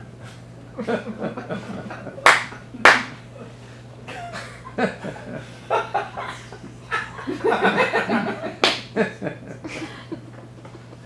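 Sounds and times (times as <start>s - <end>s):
audience laughing: 0.8s - 2.8s, 4.1s - 11.0s.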